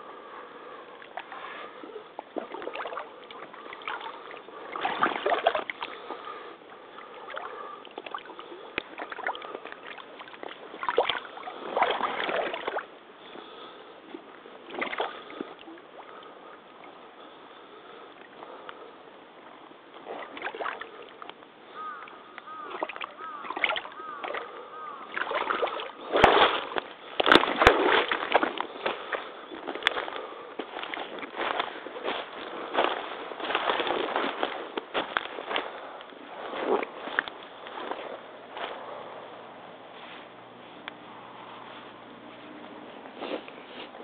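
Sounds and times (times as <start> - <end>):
wading through shallow water: 0.0 - 44.0.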